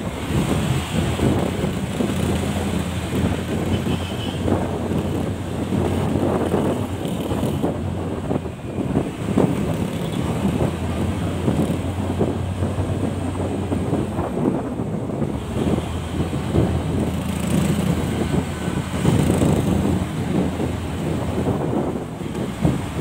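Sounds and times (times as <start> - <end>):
motorcycle engine hum: 0.0 - 23.0
wind buffeting microphone: 0.0 - 23.0.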